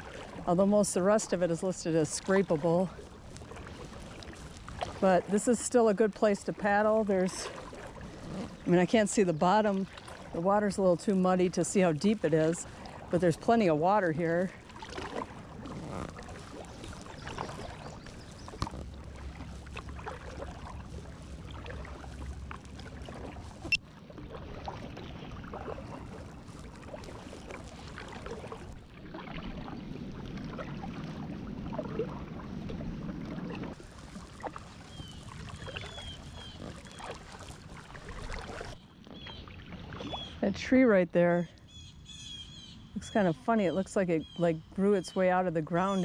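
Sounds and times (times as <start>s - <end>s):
kayak paddle splashing water: 0.0s - 41.0s.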